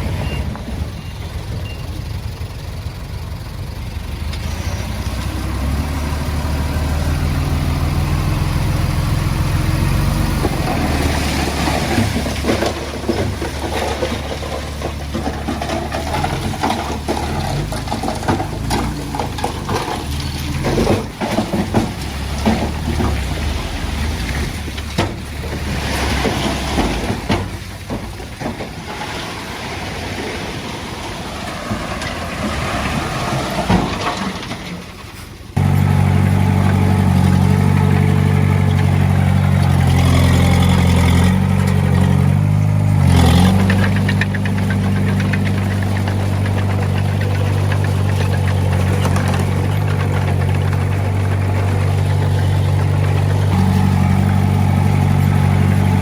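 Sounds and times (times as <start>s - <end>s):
diesel earthmoving machine engine: 0.0s - 56.0s
earth and rock scraping: 4.4s - 56.0s
clanks and knocks: 9.6s - 30.1s, 31.4s - 56.0s.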